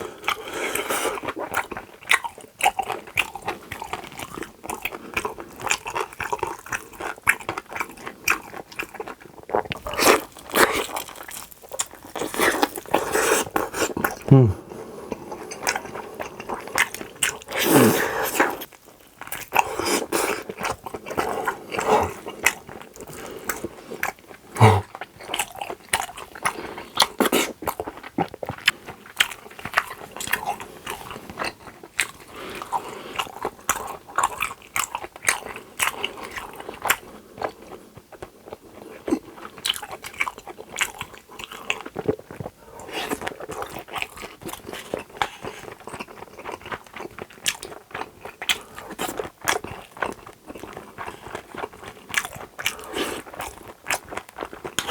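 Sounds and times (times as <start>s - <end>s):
chewing and biting: 0.0s - 54.9s
food crunching: 0.0s - 54.9s.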